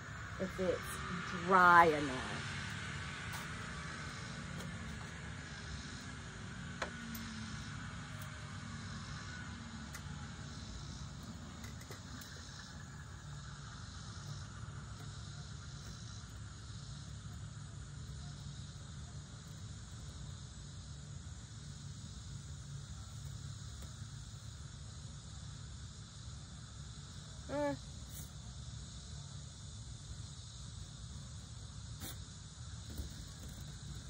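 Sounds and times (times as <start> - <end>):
crickets chirping: 0.0 - 34.0
low steady hum: 0.0 - 34.0.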